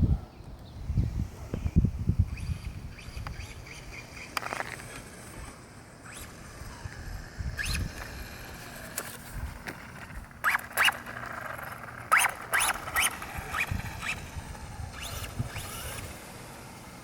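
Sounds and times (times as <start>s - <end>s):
toy truck electric motor whining: 2.4s - 17.0s.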